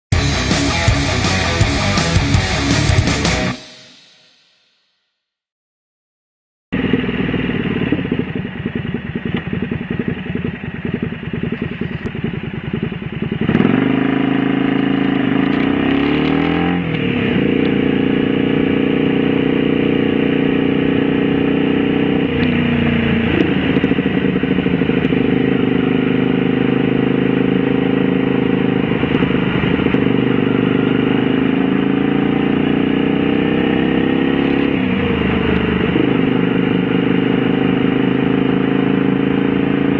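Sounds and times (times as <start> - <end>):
motorcycle engine revving: 0.1 - 4.4, 6.7 - 39.9.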